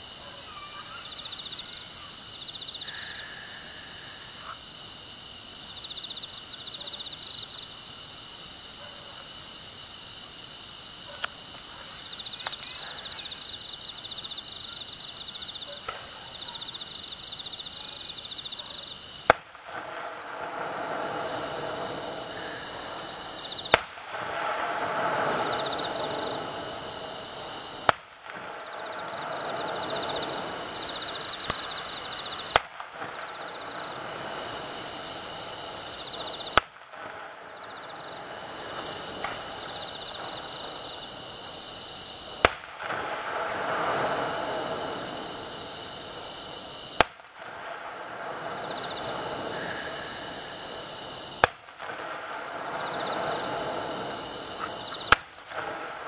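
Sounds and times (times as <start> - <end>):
insects chirping: 0.0 - 56.0
distant fireworks bursting: 10.8 - 56.0.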